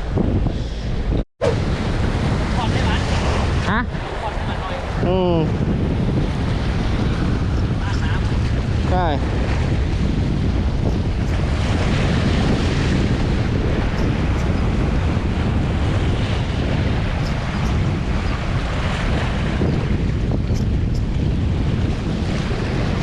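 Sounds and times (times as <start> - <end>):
wind buffeting microphone: 0.0 - 23.0
waves washing on shore: 0.8 - 23.0.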